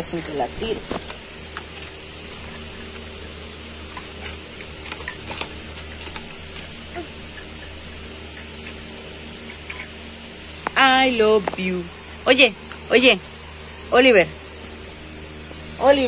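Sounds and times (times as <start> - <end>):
low room tone hum: 0.0 - 16.0.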